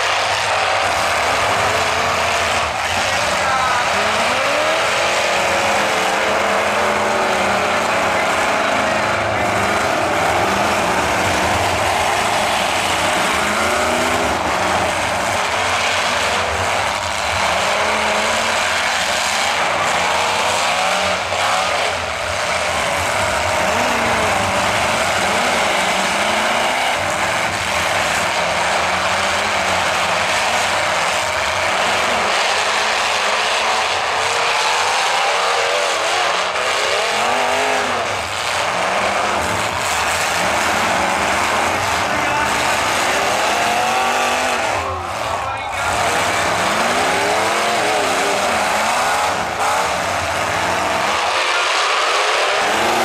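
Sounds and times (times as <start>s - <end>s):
truck engines revving: 0.0s - 53.0s.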